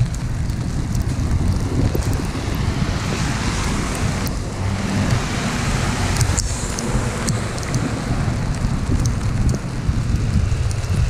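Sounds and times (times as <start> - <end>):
steady rushing hiss: 0.0 - 11.0
storm wind buffeting microphone: 0.0 - 11.0.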